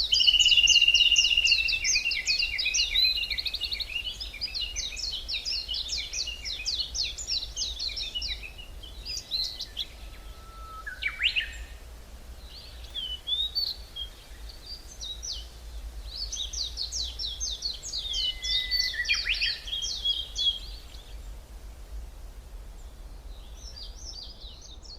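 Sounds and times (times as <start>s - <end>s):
songbirds singing: 0.0s - 24.9s.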